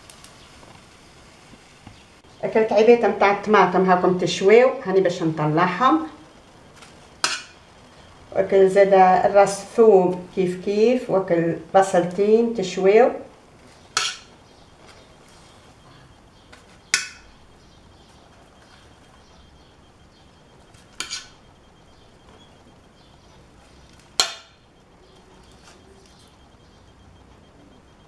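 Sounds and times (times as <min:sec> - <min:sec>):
low steady hiss: 0:00.0 - 0:28.0.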